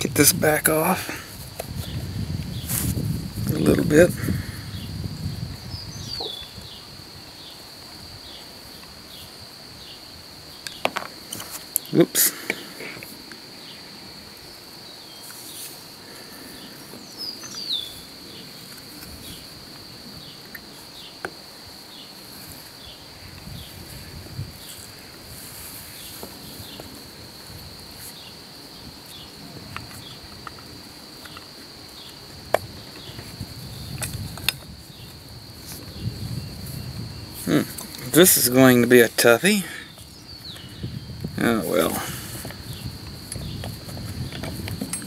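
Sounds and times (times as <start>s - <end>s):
high-pitched insect trill: 0.0s - 45.0s.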